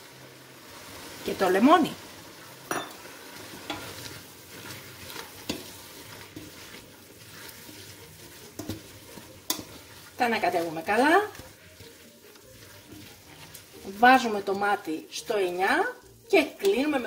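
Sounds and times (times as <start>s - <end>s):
greens sizzling in oil: 0.0s - 17.0s.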